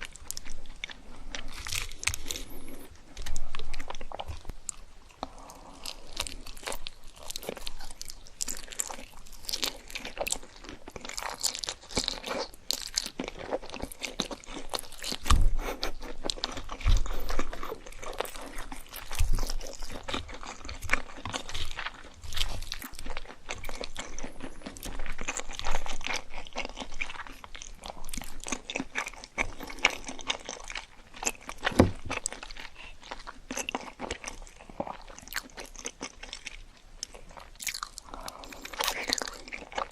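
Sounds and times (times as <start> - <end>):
chewing crispy fried food: 0.0 - 39.9.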